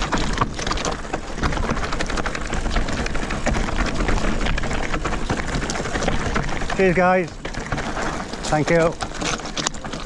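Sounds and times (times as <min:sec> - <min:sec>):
bike tyres crunching over stones: 0:00.0 - 0:10.0.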